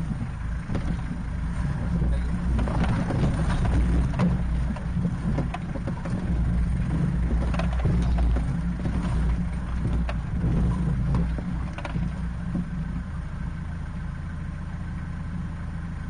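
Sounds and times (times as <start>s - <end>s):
body knocks and rattles: 0.0s - 13.2s
vehicle engine low rumble: 0.0s - 16.0s.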